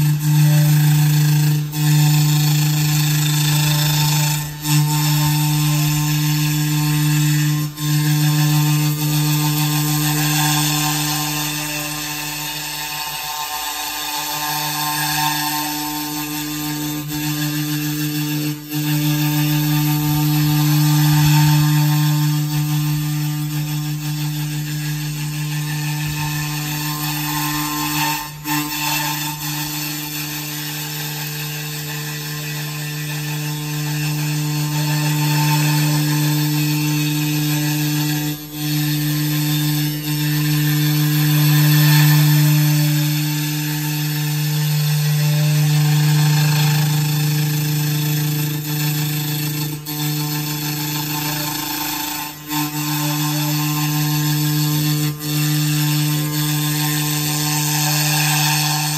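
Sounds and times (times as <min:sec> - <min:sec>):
cutter milling foam: 0:00.0 - 0:58.9
router spindle humming: 0:00.0 - 0:58.9.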